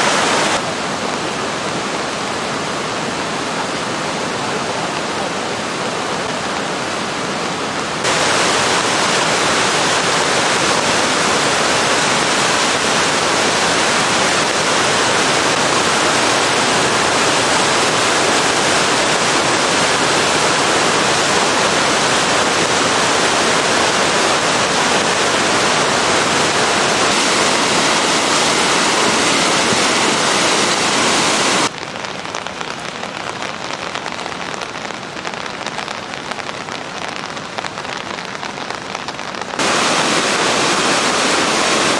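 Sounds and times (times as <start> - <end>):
rain on floodwater: 0.0 - 41.9
river torrent rushing: 0.0 - 41.9.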